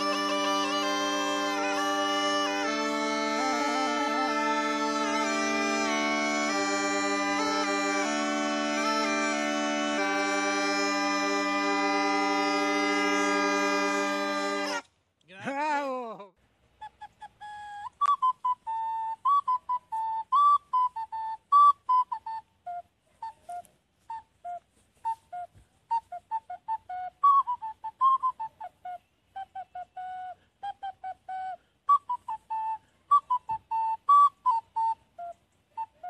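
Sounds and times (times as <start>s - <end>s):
ocarina playing lively tune: 0.0s - 14.9s, 16.8s - 36.0s.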